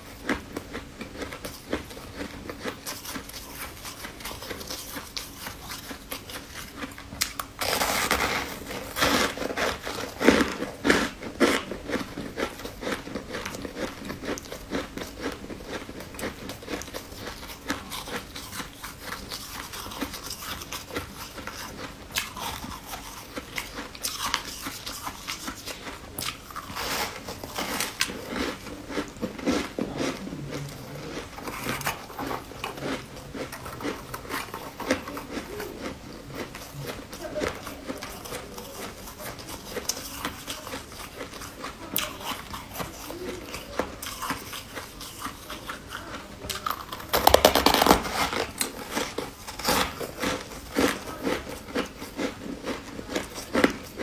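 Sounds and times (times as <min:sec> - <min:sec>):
chewing crunchy sweet: 0:00.0 - 0:54.0.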